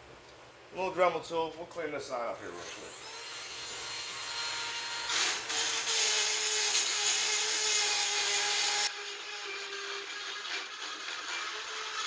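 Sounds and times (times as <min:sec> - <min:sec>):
rotary tool whining: 0:02.3 - 0:12.0.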